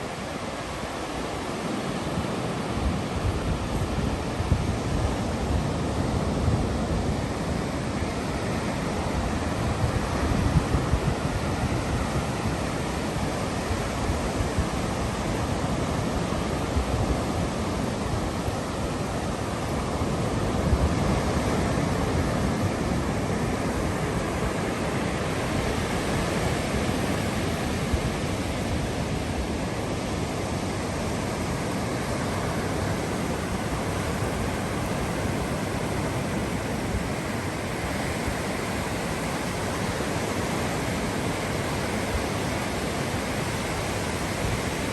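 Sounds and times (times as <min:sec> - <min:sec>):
ocean waves washing ashore: 0:00.0 - 0:44.9.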